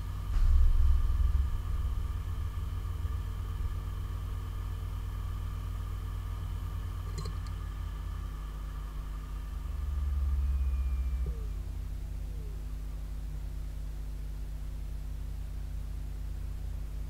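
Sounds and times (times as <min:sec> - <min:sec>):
hard drive spinning hum: 0:00.0 - 0:17.0.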